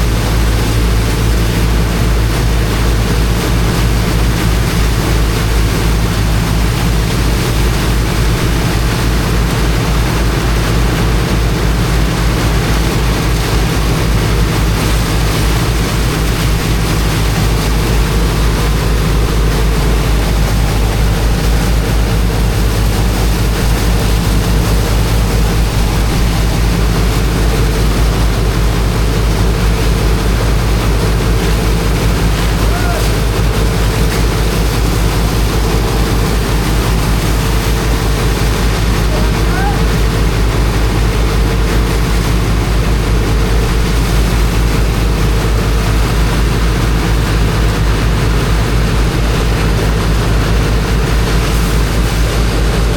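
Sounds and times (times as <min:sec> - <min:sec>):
water jet rushing: 0:00.0 - 0:52.9
water pump engine running: 0:00.0 - 0:52.9.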